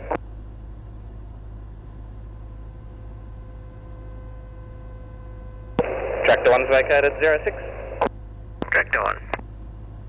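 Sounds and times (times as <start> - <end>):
airplane engine and propeller drone: 0.0 - 10.0
faint steady hum: 0.0 - 10.0.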